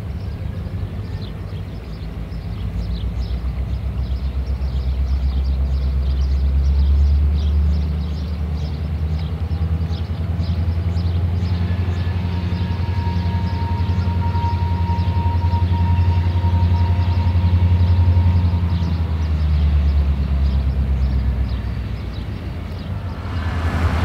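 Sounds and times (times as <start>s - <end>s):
diesel locomotives rumbling: 0.0s - 24.0s.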